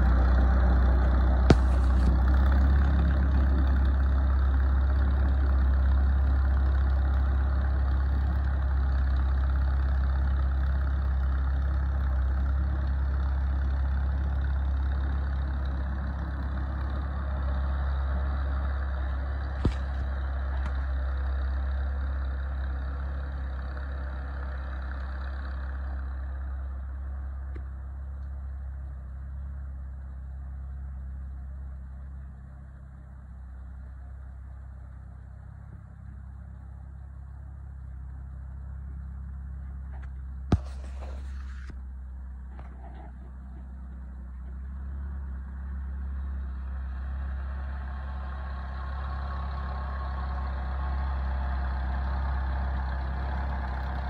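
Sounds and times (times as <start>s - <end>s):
tractor engine humming: 0.0s - 54.0s.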